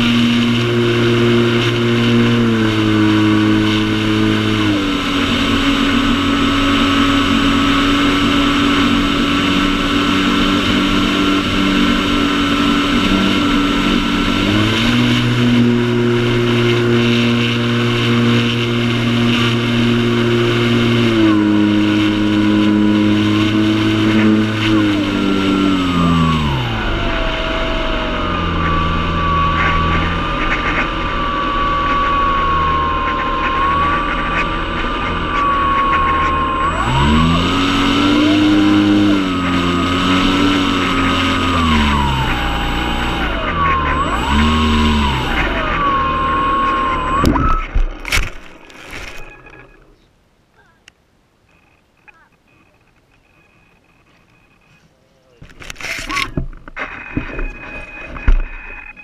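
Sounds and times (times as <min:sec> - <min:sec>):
model airplane motor drone: 0:00.0 - 0:49.9, 0:51.6 - 0:59.0.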